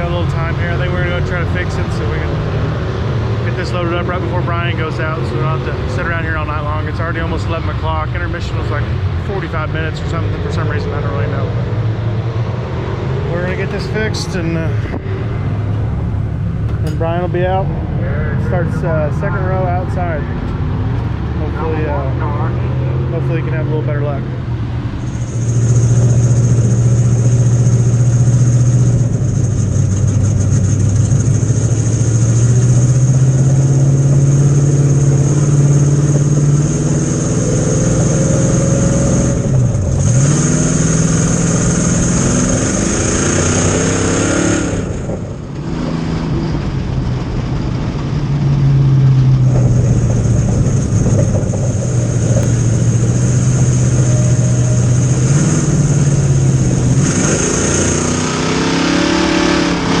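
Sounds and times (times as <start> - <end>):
race car engines: 0.0 - 60.0.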